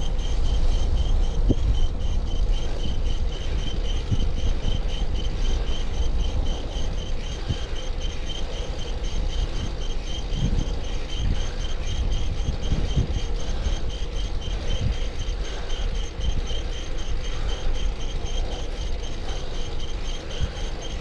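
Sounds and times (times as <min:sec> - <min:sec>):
bicycle chain chirping: 0:00.0 - 0:21.0
low wind: 0:00.0 - 0:21.0
road rumble: 0:00.0 - 0:21.0.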